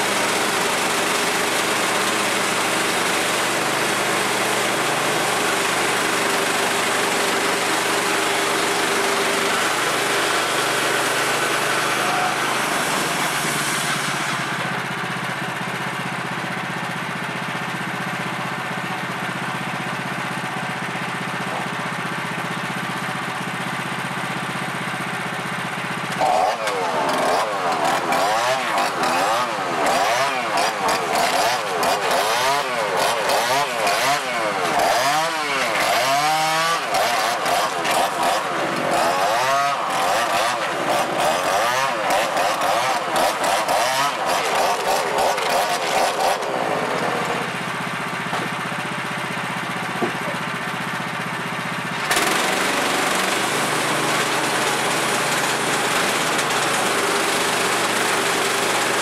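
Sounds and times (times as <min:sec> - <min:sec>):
chainsaw revving: 0:00.0 - 0:59.0
steady engine running: 0:00.0 - 0:59.0.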